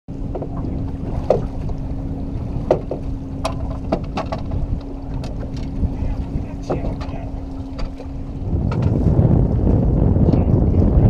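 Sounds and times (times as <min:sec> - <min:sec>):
water lapping against boat hull: 0:00.1 - 0:11.0
wind on microphone: 0:00.1 - 0:11.0.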